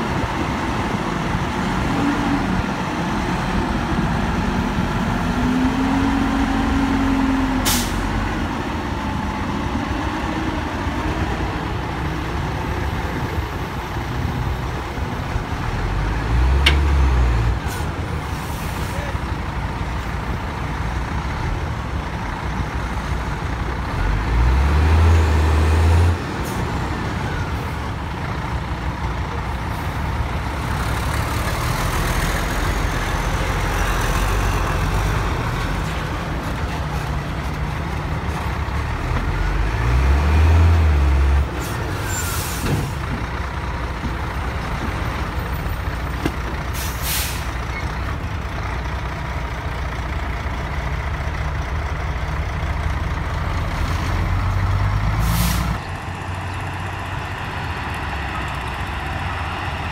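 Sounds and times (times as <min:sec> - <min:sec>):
diesel truck engines rumbling: 0:00.0 - 0:59.9.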